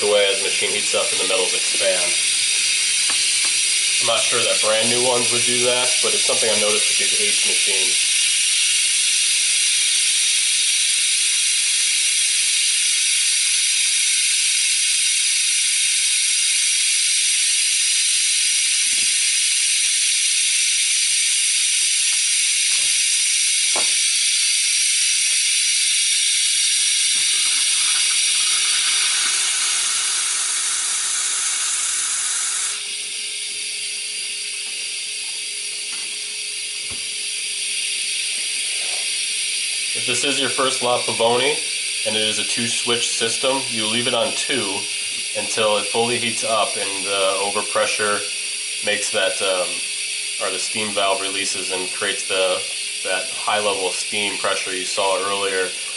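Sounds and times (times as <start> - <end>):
steam hissing: 0.0 - 34.7, 36.6 - 55.9.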